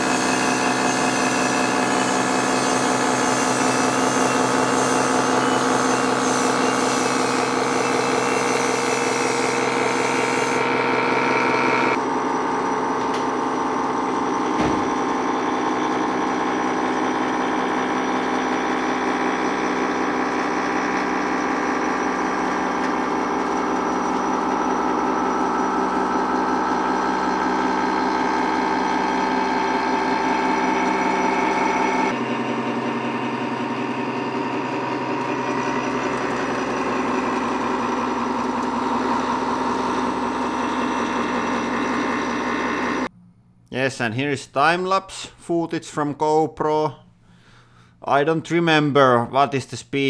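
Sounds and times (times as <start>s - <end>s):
milling machine cutting steel: 0.0s - 43.1s.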